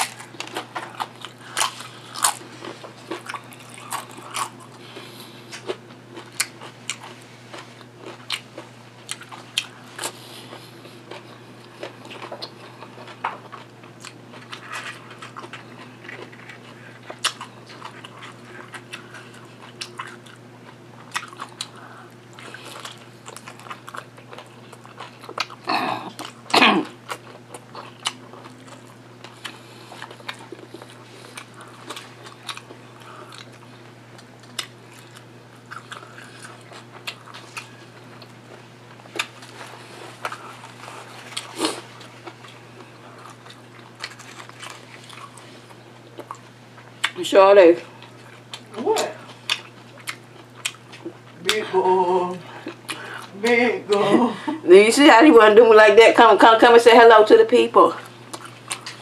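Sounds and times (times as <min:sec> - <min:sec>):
close biting and chewing: 0:00.0 - 0:47.2, 0:48.0 - 0:51.4, 0:52.6 - 0:54.0, 0:58.0 - 0:59.0
steady low hum: 0:00.0 - 0:59.0.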